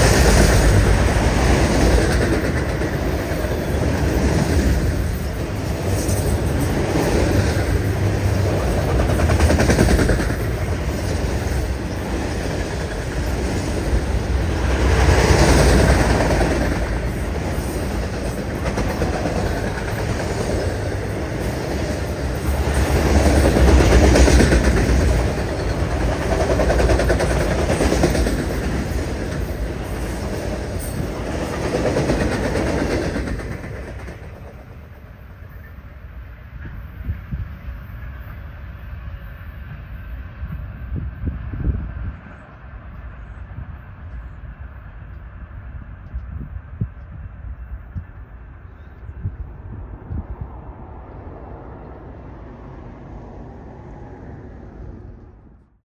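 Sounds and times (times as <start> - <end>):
freight train wheels rumbling: 0.0 - 55.6.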